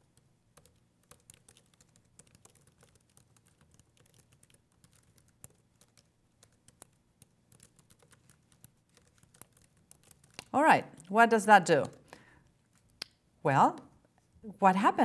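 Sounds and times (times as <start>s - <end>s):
laptop keyboard typing: 0.0s - 12.2s.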